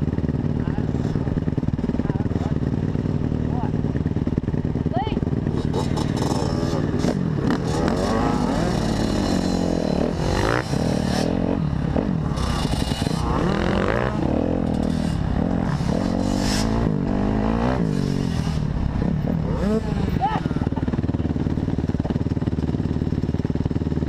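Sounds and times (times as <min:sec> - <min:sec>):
dirt bike engine revving: 0:00.0 - 0:23.9.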